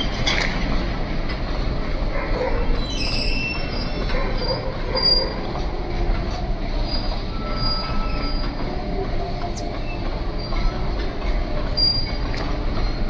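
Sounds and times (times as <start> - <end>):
freight wagons rolling past: 0.0 - 13.0
wheels squealing on rails: 0.0 - 13.0.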